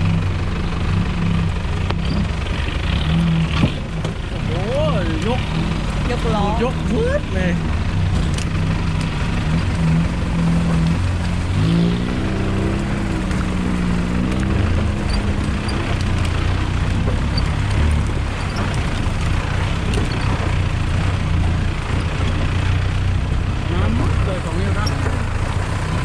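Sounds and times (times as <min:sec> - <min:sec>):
off-road vehicle engine revving: 0:00.0 - 0:26.0.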